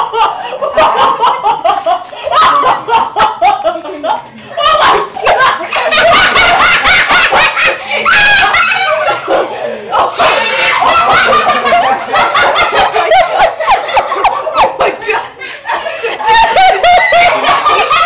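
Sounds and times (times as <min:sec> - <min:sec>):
people laughing loudly: 0:00.0 - 0:18.0.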